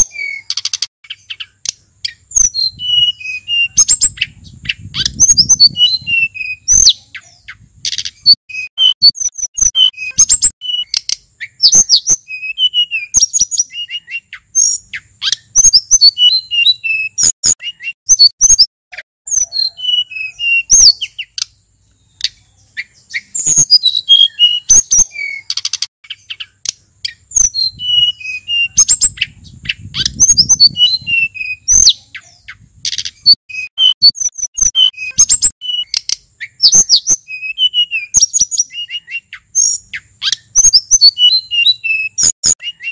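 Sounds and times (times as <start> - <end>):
bird singing whistles and chirps: 0.0 - 18.7, 19.3 - 42.9.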